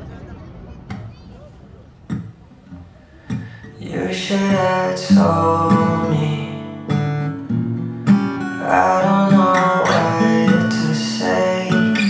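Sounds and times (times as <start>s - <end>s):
strummed acoustic guitar chords: 2.0s - 12.0s.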